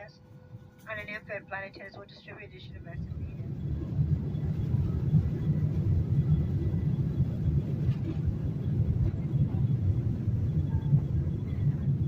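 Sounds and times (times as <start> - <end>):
jet cabin low rumble: 0.0 - 12.0.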